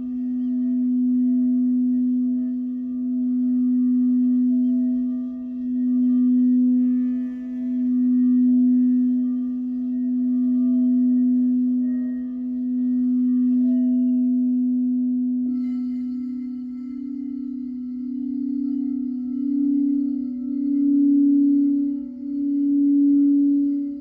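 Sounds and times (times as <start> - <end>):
singing bowl higher ring: 0.0 - 24.0
singing bowl low hum: 0.0 - 24.0.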